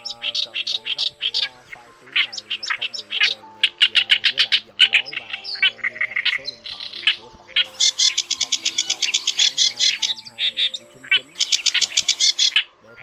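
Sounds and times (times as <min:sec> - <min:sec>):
faint background music: 0:00.0 - 0:13.0
recorded songbird chirps: 0:00.0 - 0:13.0.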